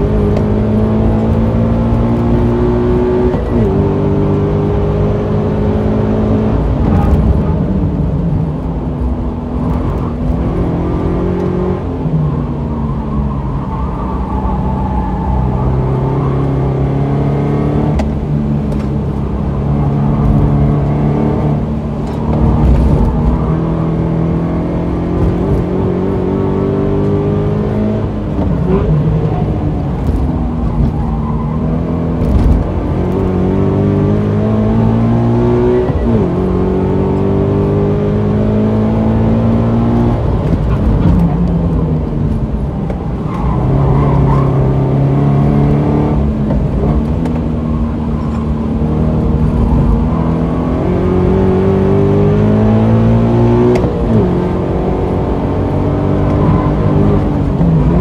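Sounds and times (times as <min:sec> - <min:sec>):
car engine revving in cabin: 0:00.0 - 0:58.0.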